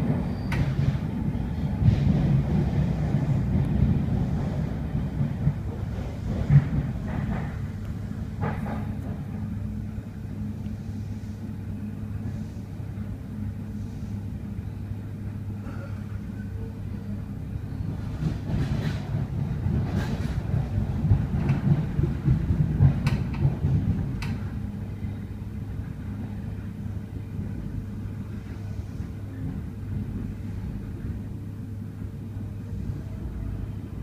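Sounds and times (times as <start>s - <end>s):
train car rumble and hum: 0.0s - 34.0s.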